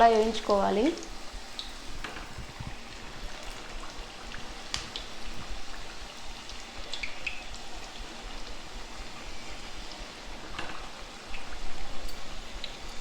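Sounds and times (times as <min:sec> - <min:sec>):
food sizzling in hot oil: 0:00.0 - 0:13.0
oil popping and crackling: 0:00.0 - 0:13.0.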